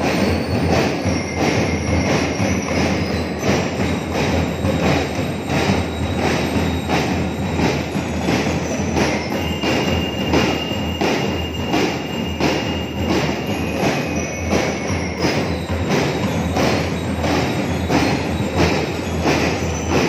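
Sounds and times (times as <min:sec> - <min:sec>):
snare and bass drums marching: 0:00.0 - 0:20.0.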